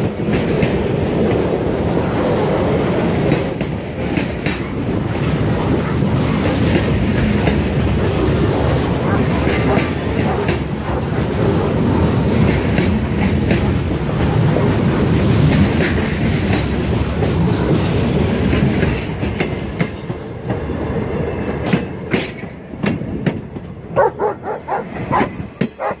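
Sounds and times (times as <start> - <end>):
train rumble: 0.0 - 26.0
train wheels clacking over rail joints: 0.0 - 26.0.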